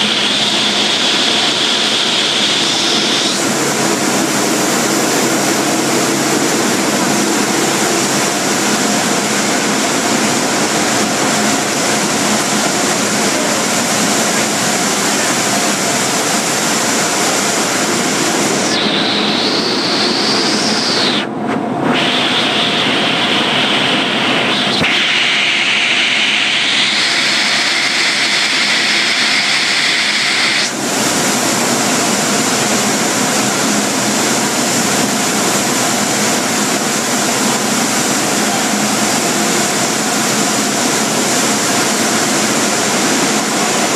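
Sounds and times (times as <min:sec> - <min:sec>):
air blowers rushing: 0:00.0 - 0:43.9
high whine: 0:00.0 - 0:43.9.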